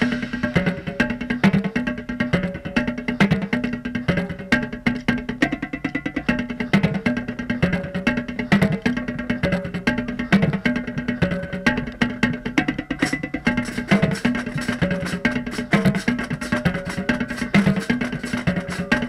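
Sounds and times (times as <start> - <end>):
marching tenor drums: 0.0 - 19.0.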